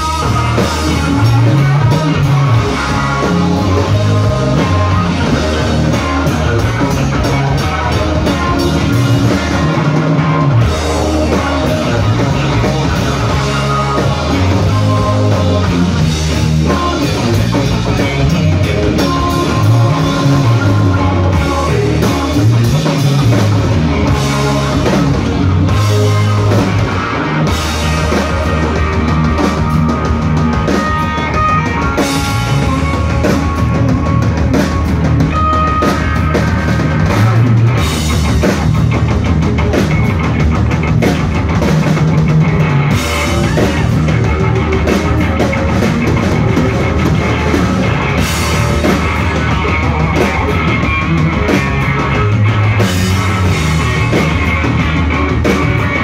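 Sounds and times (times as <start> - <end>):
bass guitar: 0.0 - 56.0
drum kit: 0.0 - 56.0
electric guitar: 0.0 - 56.0.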